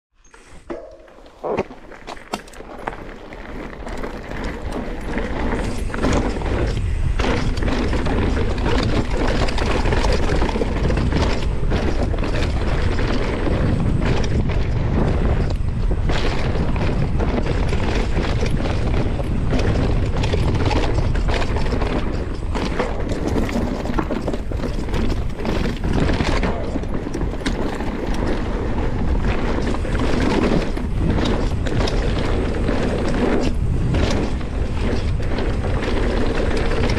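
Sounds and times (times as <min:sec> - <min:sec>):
bike clicks and rattles: 0:00.2 - 0:36.9
bike tyres rolling on gravel: 0:00.4 - 0:36.9
wind buffeting microphone: 0:02.5 - 0:36.9.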